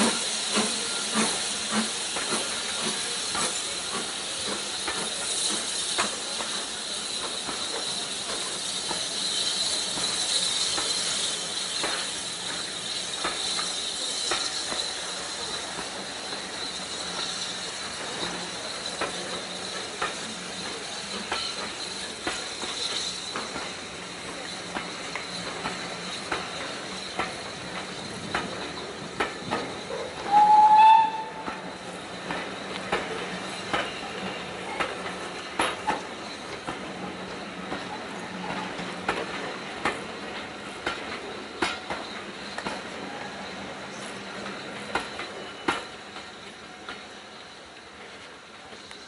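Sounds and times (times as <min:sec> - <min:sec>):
steam hissing: 0:00.0 - 0:49.0
train wheels clicking over rail joints: 0:00.0 - 0:49.0.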